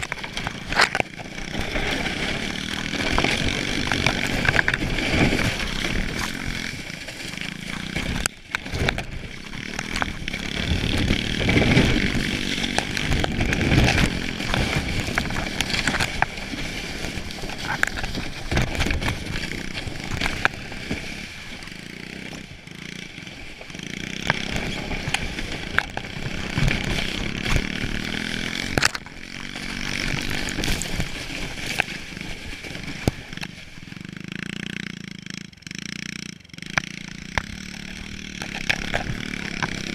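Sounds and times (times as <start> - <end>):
sled knocking on bumps: 0.0 - 35.6, 36.4 - 39.9
sled scraping over snow: 0.0 - 39.9
small motorbike engine buzzing: 0.0 - 39.9.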